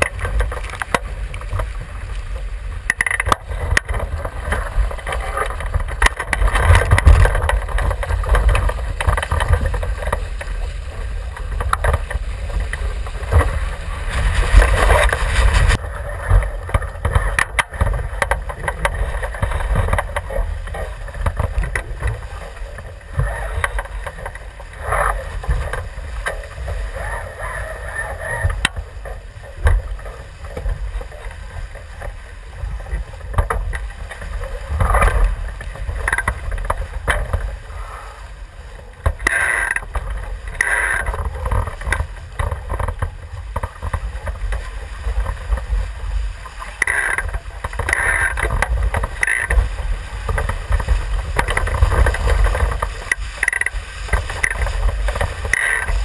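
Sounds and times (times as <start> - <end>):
water splashing along hull: 0.0 - 56.0
wind buffeting microphone: 0.0 - 56.0.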